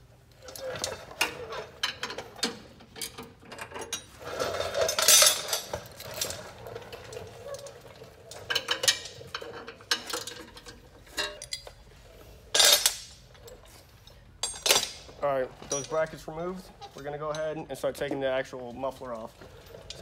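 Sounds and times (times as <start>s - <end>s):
metal tools and bolts clinking: 0.4s - 11.9s, 12.5s - 20.0s.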